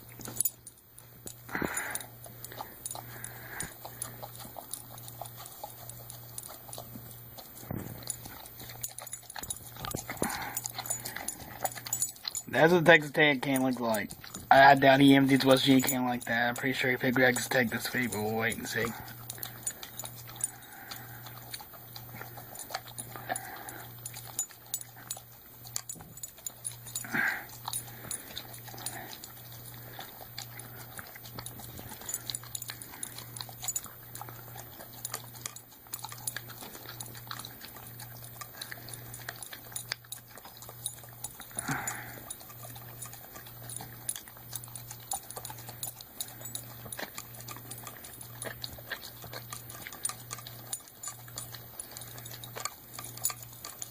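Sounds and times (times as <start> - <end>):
dog licking and chewing: 0.0 - 53.9.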